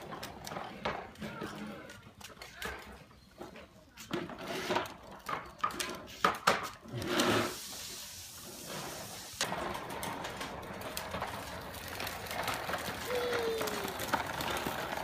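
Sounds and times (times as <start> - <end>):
plastic toy wheels rolling on stone: 0.0 - 15.0.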